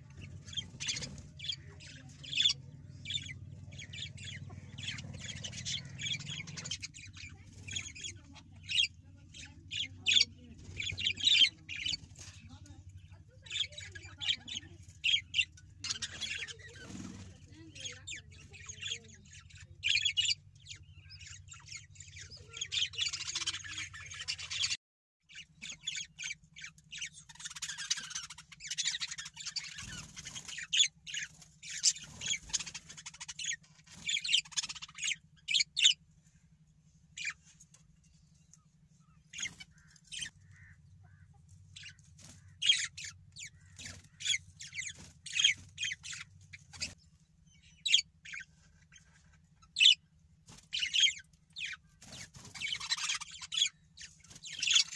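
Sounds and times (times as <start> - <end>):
budgerigars chattering: 0.0 - 36.0, 37.2 - 37.5, 39.0 - 54.9.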